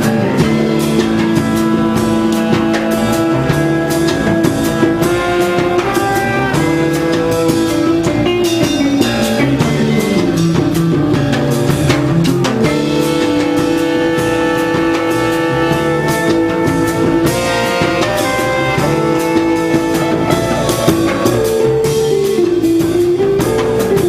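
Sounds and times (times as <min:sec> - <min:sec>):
drum kit with cymbal hits: 0:00.0 - 0:24.0
sustained jazz chords: 0:00.0 - 0:24.0.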